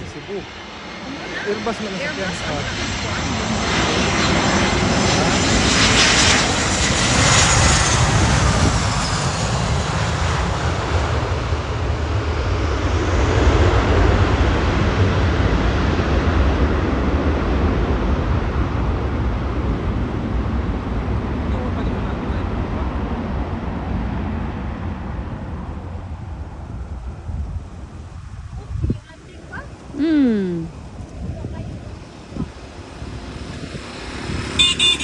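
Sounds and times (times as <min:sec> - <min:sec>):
jet engines heard from cabin: 0:00.0 - 0:35.0.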